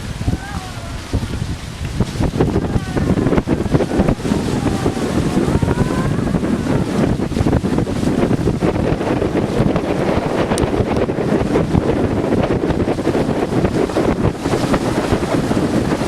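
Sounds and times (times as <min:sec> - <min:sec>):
heavy rain downpour: 0:00.0 - 0:16.0
wind buffeting microphone: 0:00.0 - 0:16.0.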